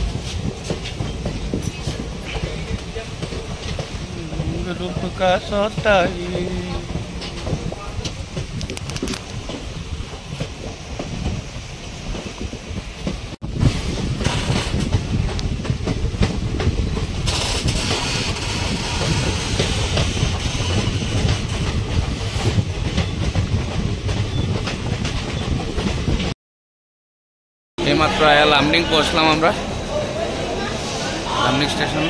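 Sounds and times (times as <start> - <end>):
train wheels rumbling and clacking: 0.0 - 26.4.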